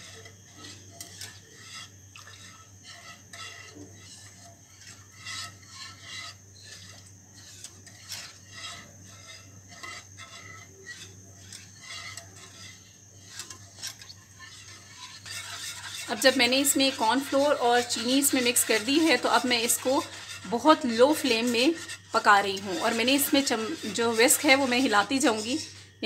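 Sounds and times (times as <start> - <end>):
steady low hum: 0.0 - 26.0
whisk scraping a pan: 0.0 - 26.0.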